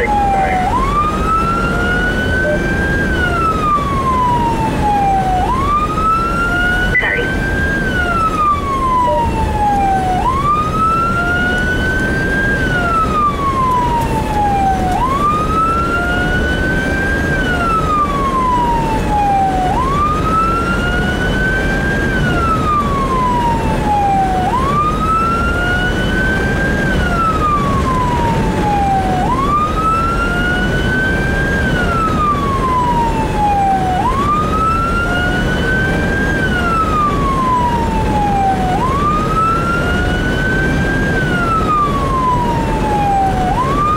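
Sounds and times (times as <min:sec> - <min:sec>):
road and engine noise: 0:00.0 - 0:43.9
siren wailing: 0:00.0 - 0:43.9.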